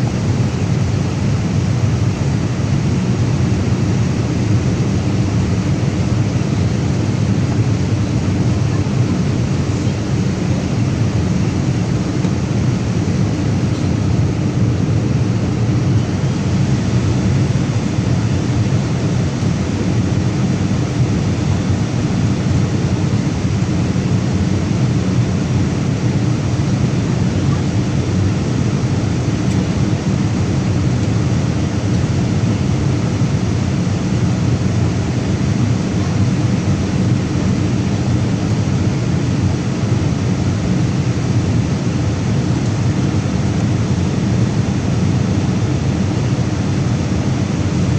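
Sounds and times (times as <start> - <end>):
airplane engines rumbling: 0.0 - 47.9.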